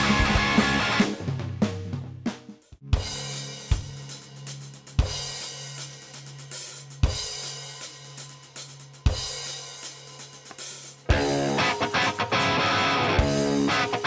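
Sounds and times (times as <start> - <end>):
rock drum kit groove: 0.0 - 14.0.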